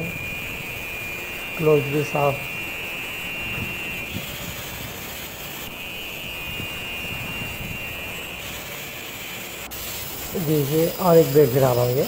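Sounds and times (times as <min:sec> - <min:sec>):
angle grinder polishing stone: 0:00.0 - 0:12.0.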